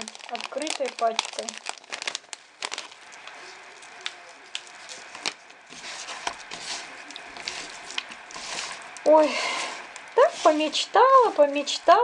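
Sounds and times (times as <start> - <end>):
paper packet crinkling: 0.0 - 11.9.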